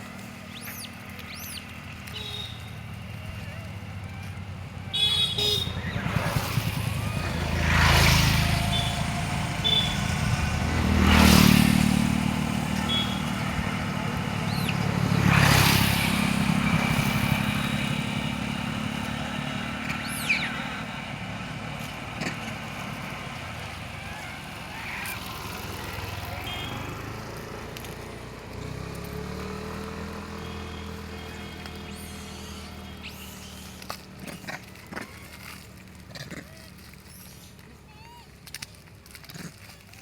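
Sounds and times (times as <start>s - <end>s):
low engine rumble: 0.0s - 40.0s
vehicles passing: 0.0s - 40.0s.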